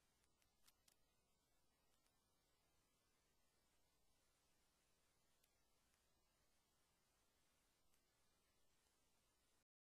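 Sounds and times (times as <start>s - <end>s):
faint noise floor hiss: 0.0s - 9.7s.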